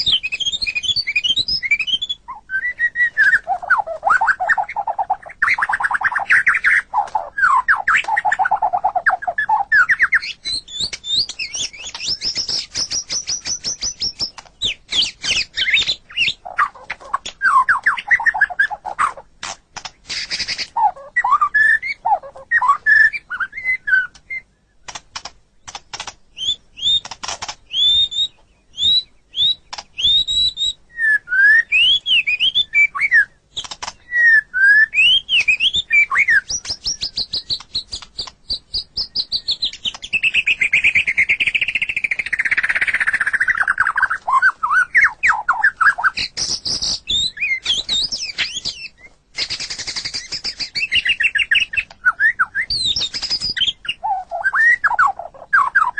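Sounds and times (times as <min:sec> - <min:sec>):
bird singing whistled notes: 0:00.0 - 0:19.2, 0:20.0 - 0:24.9, 0:25.6 - 0:55.9
bird chirps: 0:00.0 - 0:55.9
bird trill: 0:00.0 - 0:55.9.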